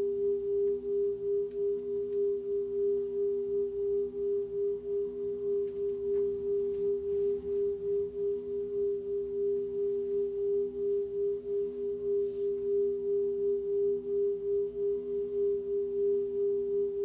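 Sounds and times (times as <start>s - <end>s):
sustained drone of held tones: 0.0s - 17.0s.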